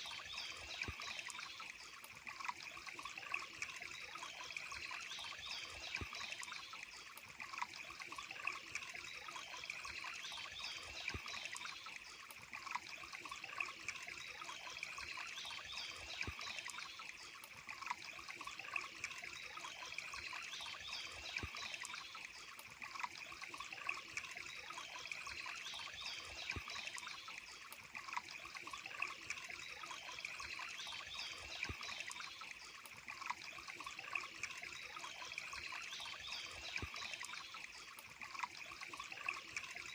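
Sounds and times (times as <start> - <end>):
water drips and plops: 0.0 - 39.9
water trickling and splashing: 0.0 - 39.9.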